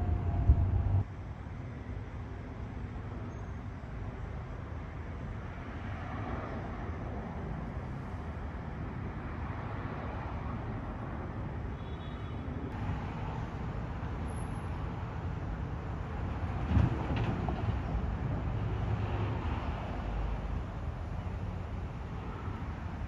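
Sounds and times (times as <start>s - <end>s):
street traffic noise: 0.0s - 23.0s.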